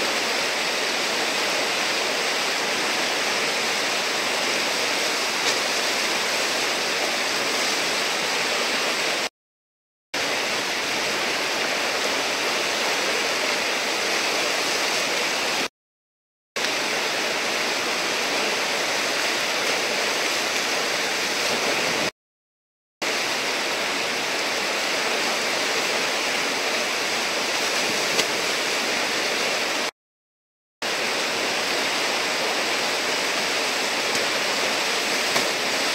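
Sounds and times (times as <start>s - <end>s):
whitewater rushing: 0.0s - 9.3s, 10.2s - 15.7s, 16.6s - 22.1s, 23.0s - 29.9s, 30.9s - 35.9s.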